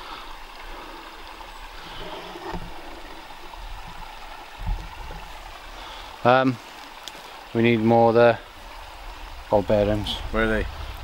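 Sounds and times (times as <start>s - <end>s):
small stream rushing: 0.0s - 11.0s.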